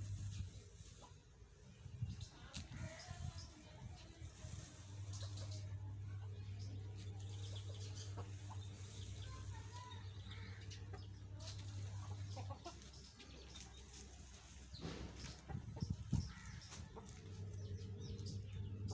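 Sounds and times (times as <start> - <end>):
chickens clucking: 0.0 - 18.9
steady low hum: 0.0 - 18.9.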